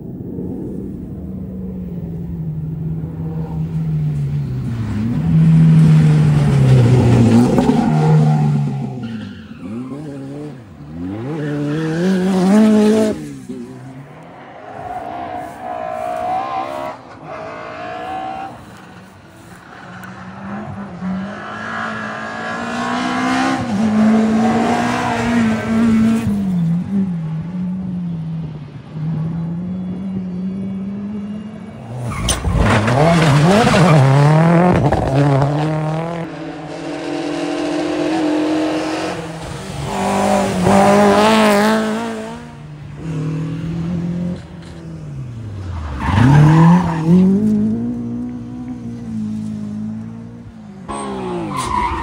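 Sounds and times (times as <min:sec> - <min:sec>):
rally car engines revving: 0:00.0 - 0:52.0.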